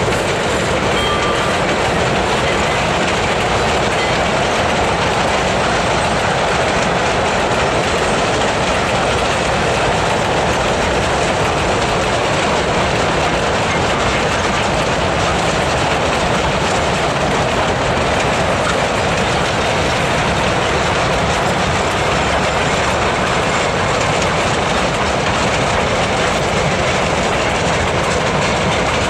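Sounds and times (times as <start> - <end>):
freight train cars rolling: 0.0 - 29.0.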